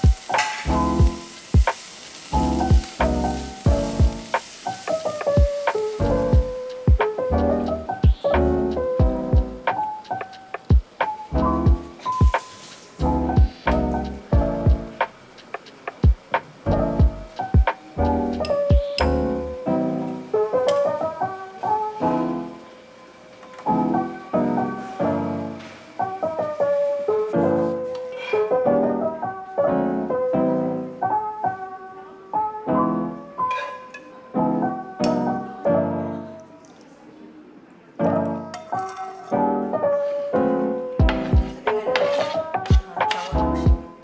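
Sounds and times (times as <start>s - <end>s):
background piano music: 0.0s - 44.0s.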